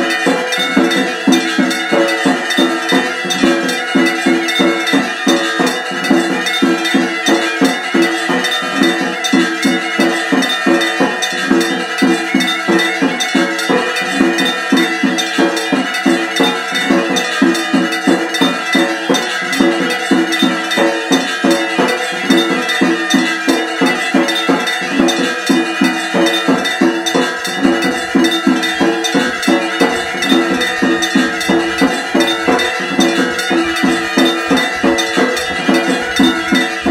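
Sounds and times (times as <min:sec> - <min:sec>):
temple bells ringing: 0:00.0 - 0:36.9.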